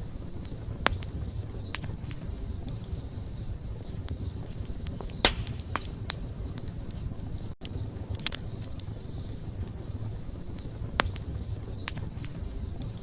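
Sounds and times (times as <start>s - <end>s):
low rumble of flames: 0.0s - 13.0s
wood crackling and popping: 0.0s - 13.0s.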